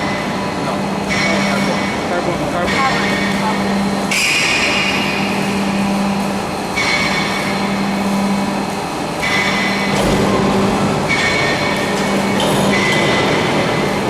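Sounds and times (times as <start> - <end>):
pipe-cutting machine hum: 0.0 - 14.0.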